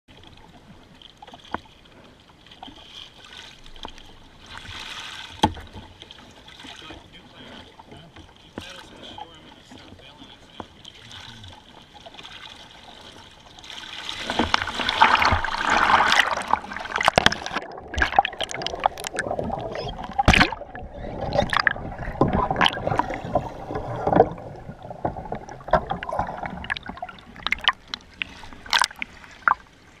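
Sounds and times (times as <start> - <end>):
water sloshing and gurgling: 0.1 - 30.0
sharp splashes and knocks: 2.6 - 8.0, 10.6 - 29.7
rush of water: 2.6 - 30.0.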